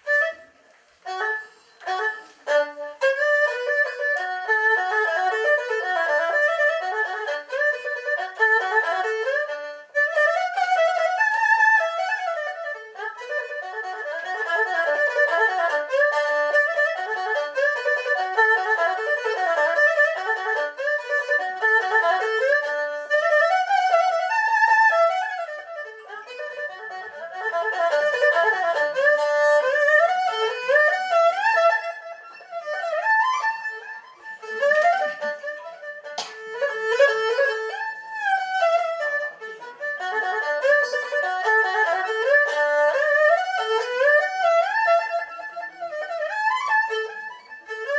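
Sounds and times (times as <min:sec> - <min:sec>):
erhu playing lively melody: 0:00.0 - 0:47.9.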